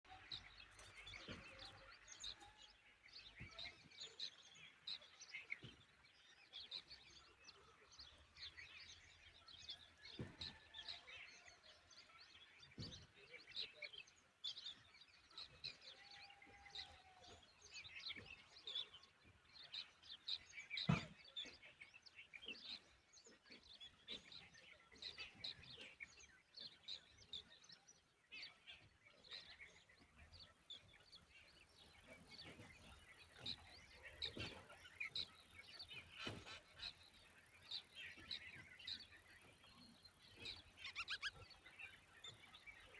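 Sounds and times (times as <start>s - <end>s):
small birds chirping: 0.1s - 42.9s.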